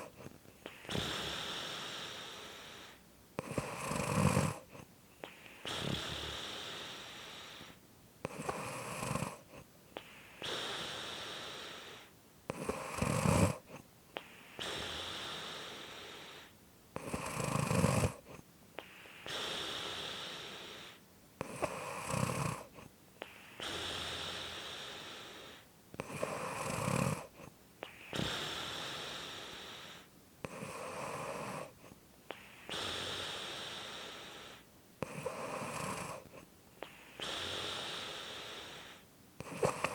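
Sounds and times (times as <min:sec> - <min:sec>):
person snoring: 0:00.0 - 0:39.9.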